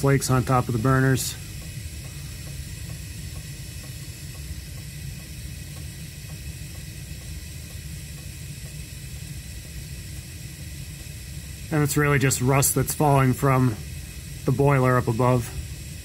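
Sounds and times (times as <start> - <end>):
gas burners rumbling and hissing: 0.0 - 16.0.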